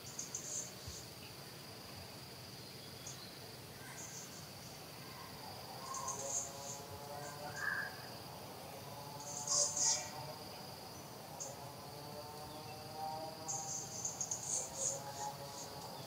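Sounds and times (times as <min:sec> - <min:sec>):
high insect chirps: 0:00.0 - 0:16.0
insects chirring: 0:00.0 - 0:16.0.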